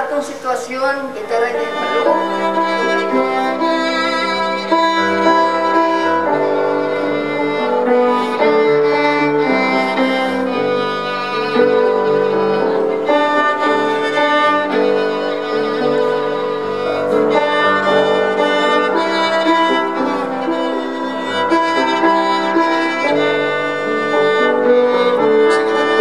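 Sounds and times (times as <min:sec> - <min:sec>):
violin playing slow melody: 0:00.5 - 0:26.0.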